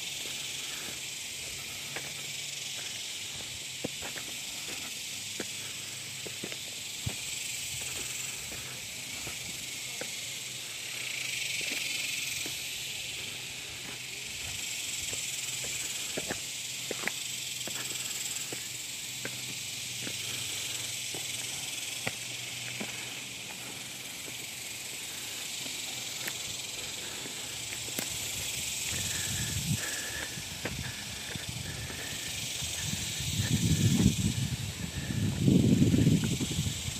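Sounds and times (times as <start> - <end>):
insects chirping chorus: 0.0 - 36.9
footsteps on gravel: 0.1 - 10.2, 11.5 - 35.4.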